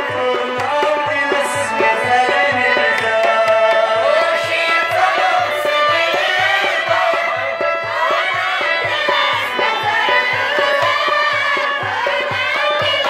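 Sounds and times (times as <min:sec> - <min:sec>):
hand drum beat: 0:00.0 - 0:13.0
person singing: 0:00.0 - 0:13.0.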